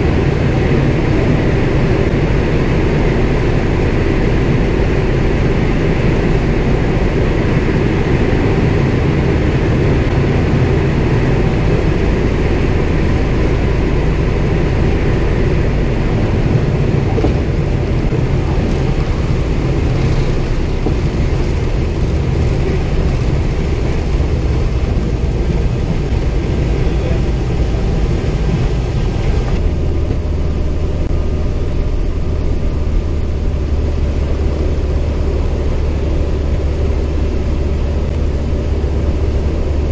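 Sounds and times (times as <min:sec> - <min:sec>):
radial aircraft engine rumbling: 0:00.0 - 0:39.9.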